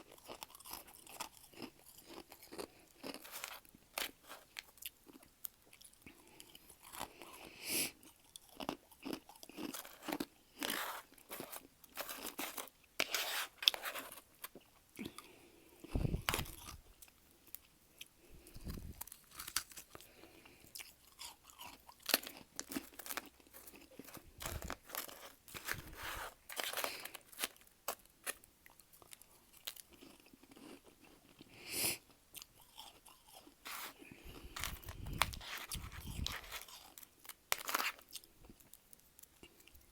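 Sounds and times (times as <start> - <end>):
chewing and crunching frost: 0.0 - 39.9.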